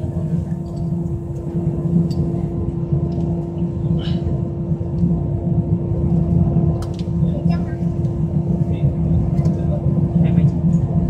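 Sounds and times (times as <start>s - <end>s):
jet engine hum in cabin: 0.0s - 11.0s.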